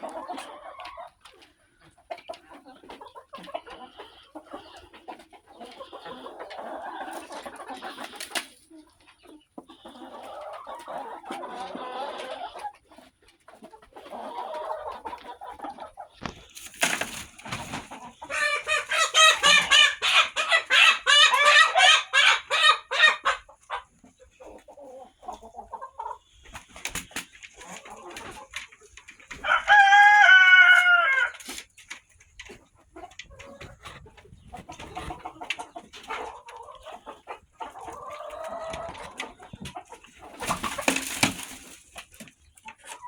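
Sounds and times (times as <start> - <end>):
chicken rapid repeated calls: 0.0 - 43.0
chickens clucking: 0.0 - 43.0.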